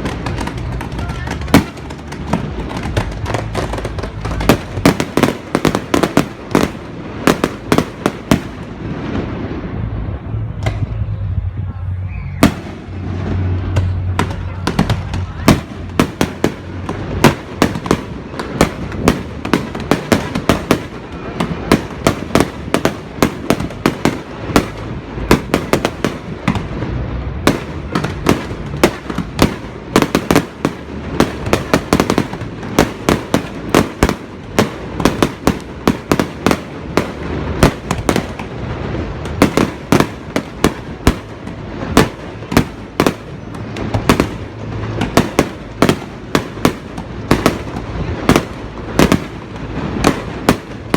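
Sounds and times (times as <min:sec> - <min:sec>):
fireworks bangs and crackles: 0:00.0 - 0:50.9
steady low rumble: 0:00.0 - 0:50.9.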